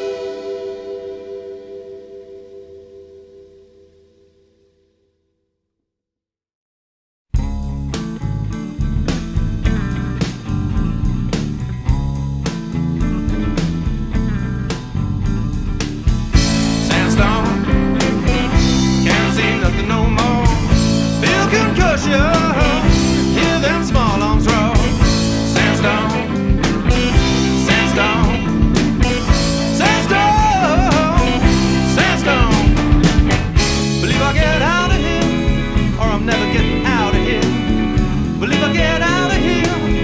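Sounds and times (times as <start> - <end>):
blues-rock music: 0.0 - 3.6, 7.4 - 40.0.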